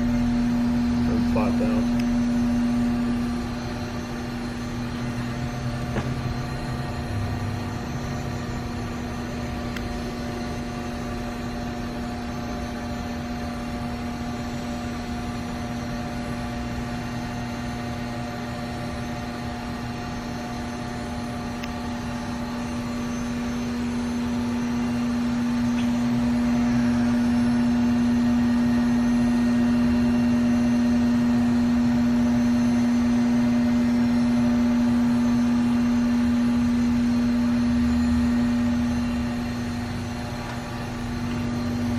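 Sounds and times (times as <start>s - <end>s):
machining center humming: 0.0s - 41.9s.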